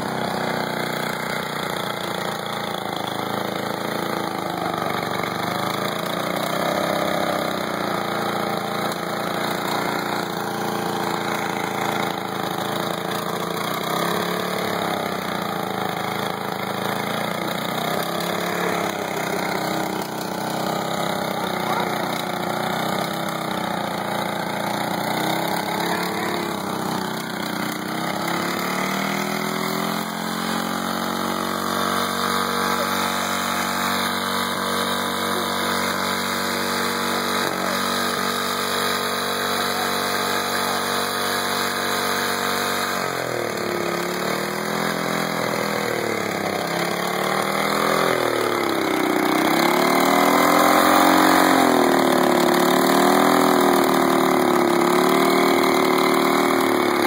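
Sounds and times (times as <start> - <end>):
small engine surging: 0.0 - 57.0.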